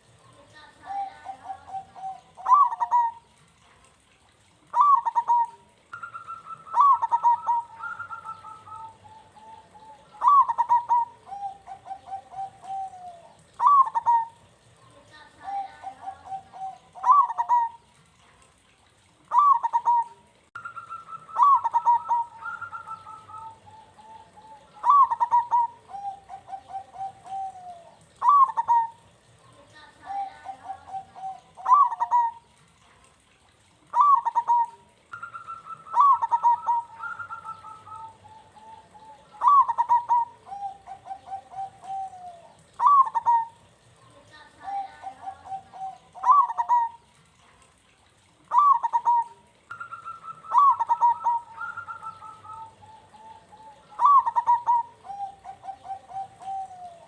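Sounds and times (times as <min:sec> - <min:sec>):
dove cooing: 0:00.0 - 0:03.7, 0:04.7 - 0:32.6, 0:33.9 - 0:47.6, 0:48.2 - 0:57.0
second dove calling: 0:00.8 - 0:03.4, 0:04.7 - 0:14.6, 0:15.4 - 0:18.0, 0:19.3 - 0:29.2, 0:30.0 - 0:32.6, 0:33.9 - 0:43.8, 0:44.6 - 0:47.2, 0:48.5 - 0:57.0.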